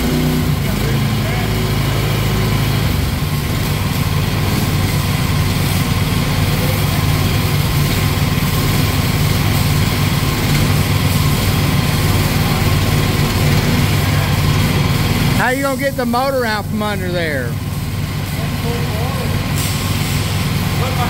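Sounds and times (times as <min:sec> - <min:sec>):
mini excavator engine running: 0:00.0 - 0:21.0.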